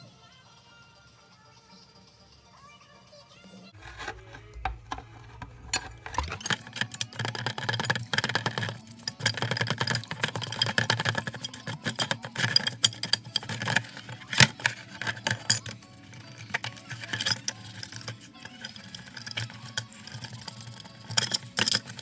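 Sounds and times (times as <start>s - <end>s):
metal tools clinking and rattling: 3.8s - 22.0s.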